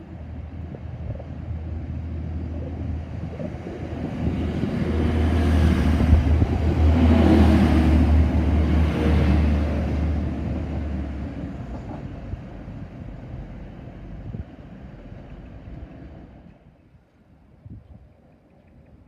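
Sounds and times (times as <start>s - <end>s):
diesel train passing: 0.0s - 16.8s.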